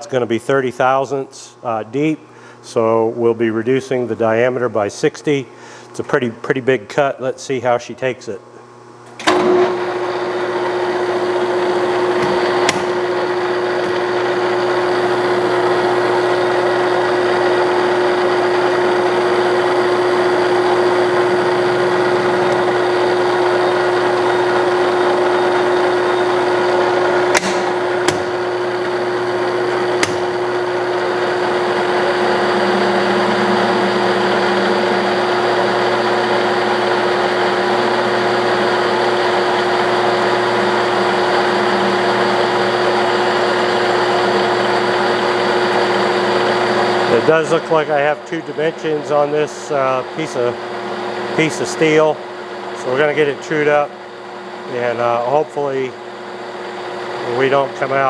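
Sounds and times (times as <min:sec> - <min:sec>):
metal lathe whining: 0:09.3 - 0:58.0.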